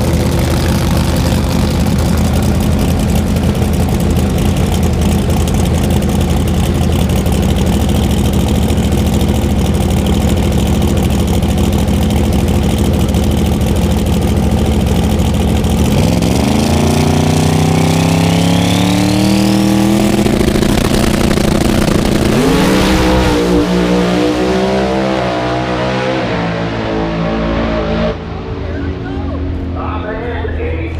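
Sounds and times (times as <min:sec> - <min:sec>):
drag car engines running loud: 0:00.0 - 0:30.9.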